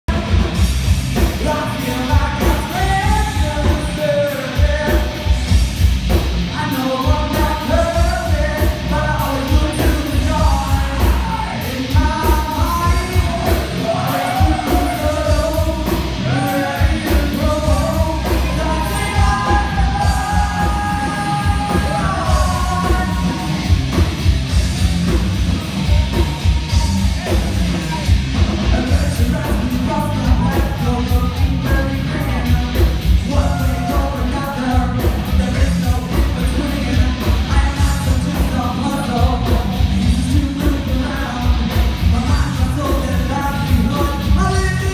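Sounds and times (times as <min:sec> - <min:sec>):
heavy bass: 0:00.0 - 0:44.9
rock band playing live: 0:00.1 - 0:44.9
person singing and shouting: 0:06.5 - 0:44.9.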